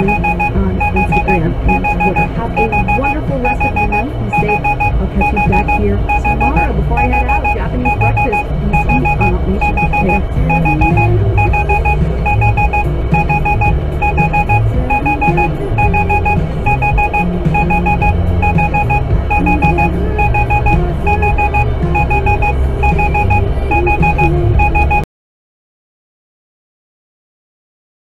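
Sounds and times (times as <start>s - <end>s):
vehicle engine rumble and road noise: 0.0s - 25.0s
electronic warning beeps: 0.0s - 25.1s.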